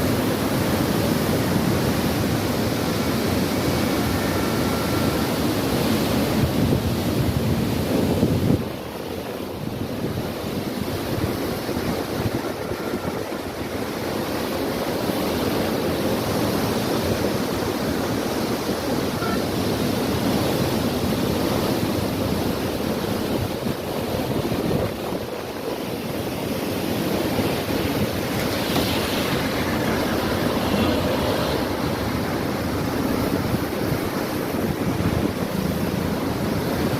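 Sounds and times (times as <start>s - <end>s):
floodwater rushing: 0.0s - 36.9s
wind buffeting microphone: 0.0s - 36.9s.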